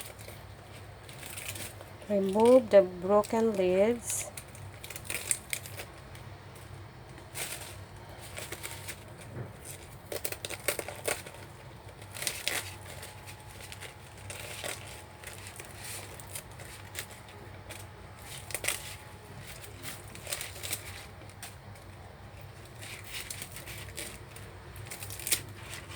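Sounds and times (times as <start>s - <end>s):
packaging crackling: 0.0s - 25.9s
vegetable leaves rustling: 0.0s - 25.9s.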